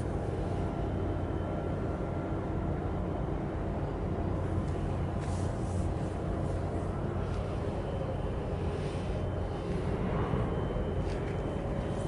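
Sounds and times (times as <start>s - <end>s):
faint hum: 0.0s - 12.0s
steady low rumble: 0.0s - 12.0s.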